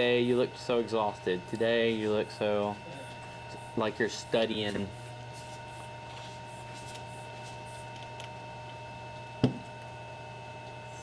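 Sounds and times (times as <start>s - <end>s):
electrical hum with whining tones: 0.0s - 11.0s.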